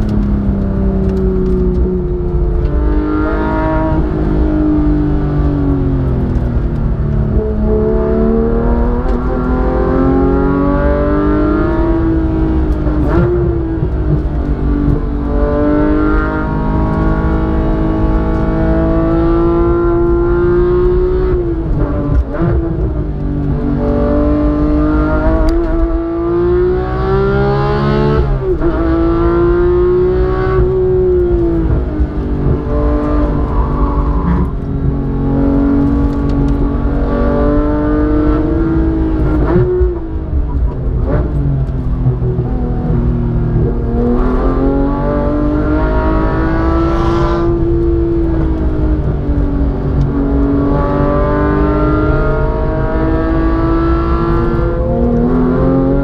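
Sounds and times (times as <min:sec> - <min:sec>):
car engine revving hard: 0:07.3 - 0:56.0.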